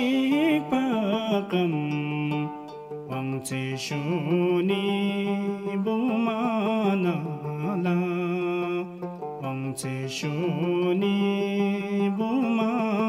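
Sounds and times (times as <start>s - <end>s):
man singing a slow sad song: 0.0s - 13.0s
musical accompaniment: 0.0s - 13.0s.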